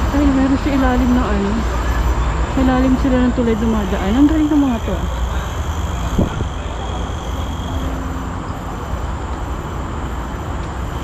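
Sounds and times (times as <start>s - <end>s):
highway traffic rumble: 0.0s - 11.0s.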